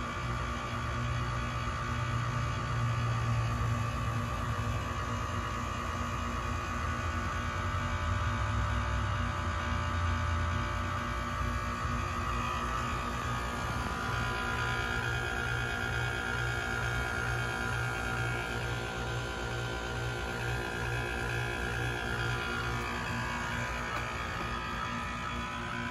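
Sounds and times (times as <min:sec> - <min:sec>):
heat pump humming: 0:00.0 - 0:25.9.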